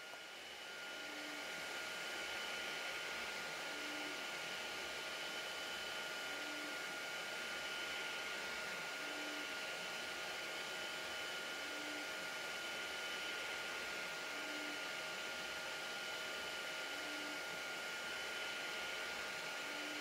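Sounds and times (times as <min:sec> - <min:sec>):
fan whir: 0:00.0 - 0:20.0.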